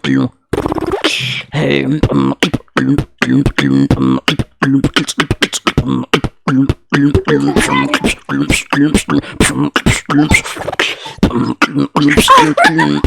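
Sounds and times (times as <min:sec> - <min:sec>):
beatboxing kick and snare: 0:00.0 - 0:13.0
short pitched vocal tones: 0:00.0 - 0:13.0.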